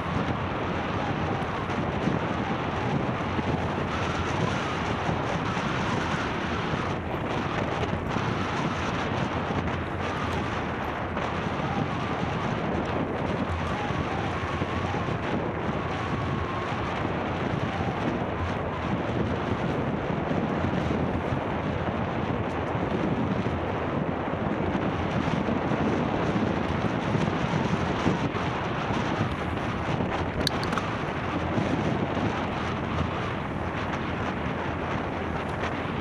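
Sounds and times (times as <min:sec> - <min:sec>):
wind noise on microphone: 0:00.0 - 0:36.0.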